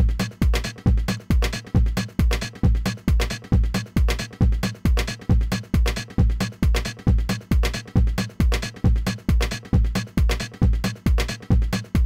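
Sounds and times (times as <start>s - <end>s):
electronic dance music: 0.0s - 12.0s
heavy kick drum: 0.0s - 12.0s.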